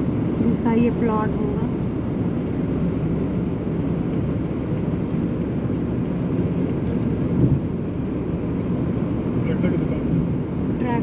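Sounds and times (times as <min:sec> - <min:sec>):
car road noise: 0:00.0 - 0:11.0.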